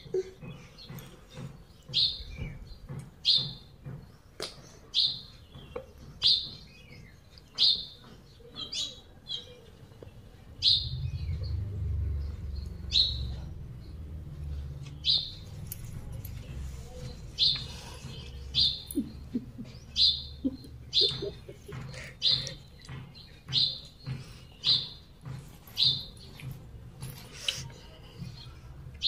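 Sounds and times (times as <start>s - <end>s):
bird chirping: 0.0s - 26.8s.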